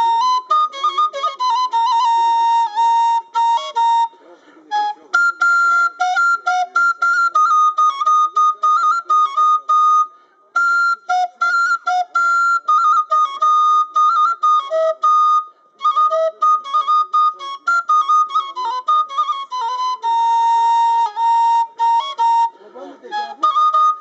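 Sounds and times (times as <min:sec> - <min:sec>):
wooden pipe folk melody: 0:00.0 - 0:24.0.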